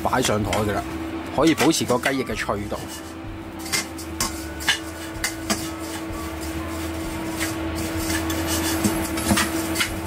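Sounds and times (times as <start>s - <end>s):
steady hum: 0.0s - 10.0s
metal spatula scraping a wok: 0.2s - 10.0s.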